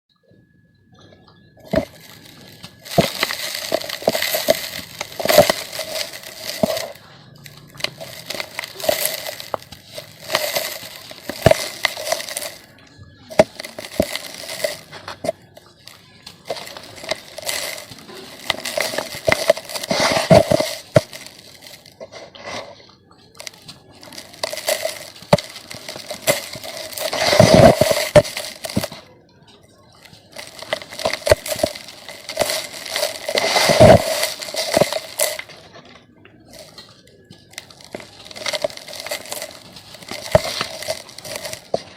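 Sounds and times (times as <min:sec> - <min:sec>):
dirt crunching and crumbling: 0:00.9 - 0:41.9.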